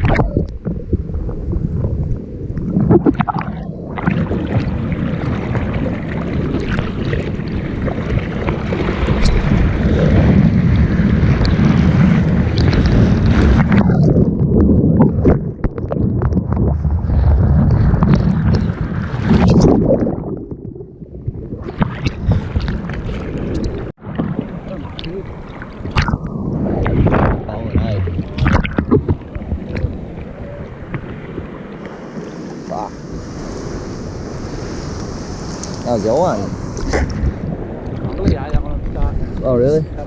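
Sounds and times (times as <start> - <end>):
water rushing and splashing: 0.0 - 40.0
wind on microphone: 0.0 - 40.0.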